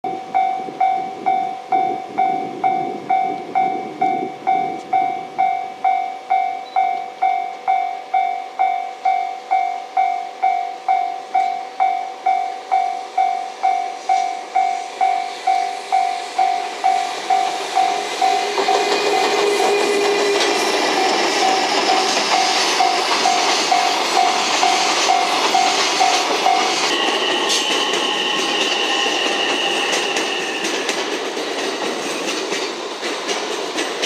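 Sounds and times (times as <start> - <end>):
freight train passing: 0.0 - 34.0.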